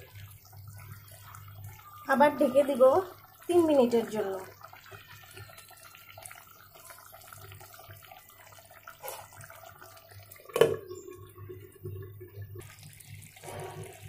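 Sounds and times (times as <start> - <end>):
curry bubbling in a pot: 0.0 - 14.0.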